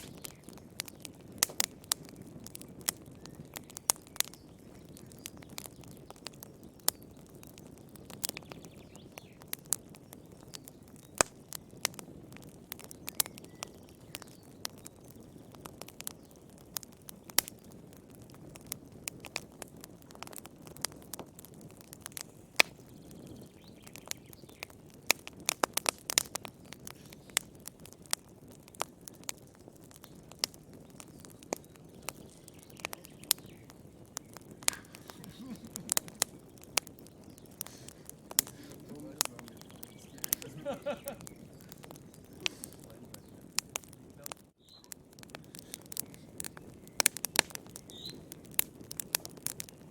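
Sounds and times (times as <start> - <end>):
low rumble of flames: 0.0 - 49.9
wood fire crackling and popping: 0.0 - 49.9.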